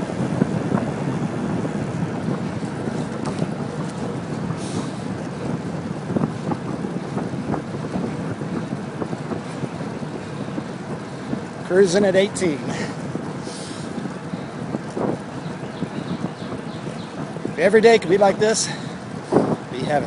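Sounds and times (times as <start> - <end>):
bicycle tyre and road noise: 0.0 - 20.0
bike clicks and rattles: 0.0 - 20.0
wind rushing over microphone: 0.0 - 20.0.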